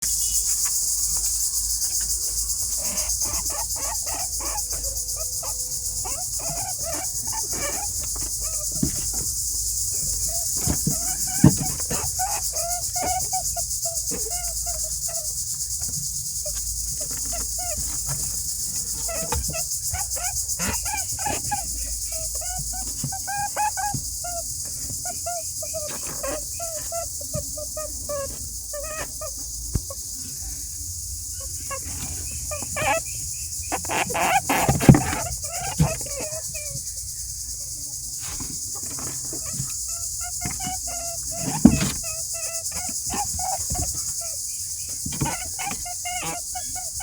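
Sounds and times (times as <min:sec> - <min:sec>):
insects chirring: 0:00.0 - 0:47.0
rabbits squeaking: 0:00.0 - 0:47.0.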